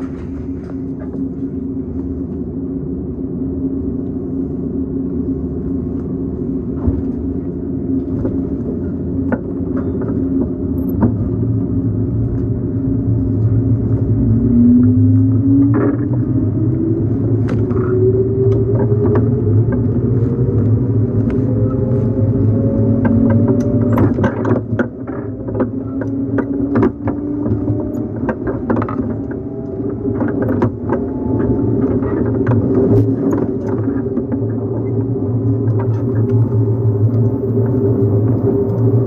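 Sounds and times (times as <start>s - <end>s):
train motor hum and whine: 0.0s - 39.0s.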